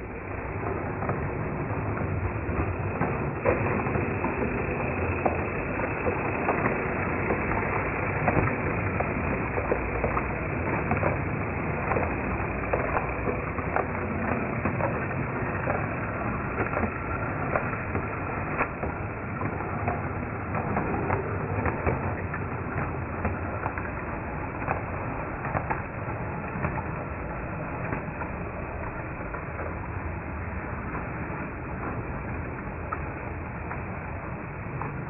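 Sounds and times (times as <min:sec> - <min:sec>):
model train rolling rumble: 0:00.0 - 0:35.0
wheels clicking over rail joints: 0:00.1 - 0:35.0.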